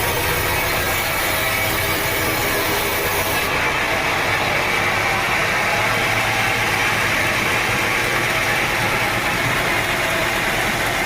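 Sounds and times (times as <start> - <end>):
saw machine running hum: 0.0 - 11.0.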